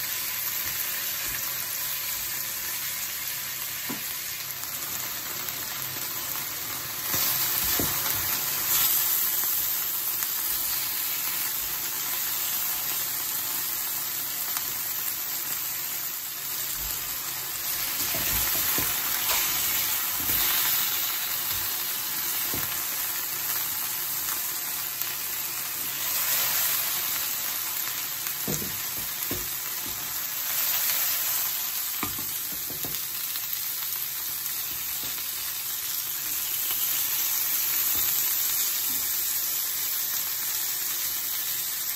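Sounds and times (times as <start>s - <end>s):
chicken sizzling in a frying pan: 0.0s - 41.9s.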